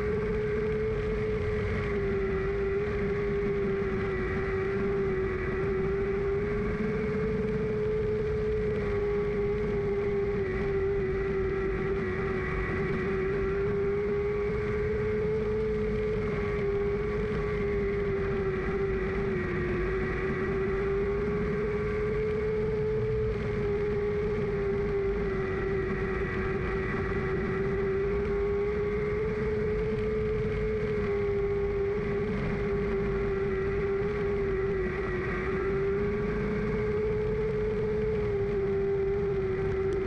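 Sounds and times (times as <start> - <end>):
race car engine at high revs: 0.0 - 40.0
wind and rumble noise: 0.0 - 40.0.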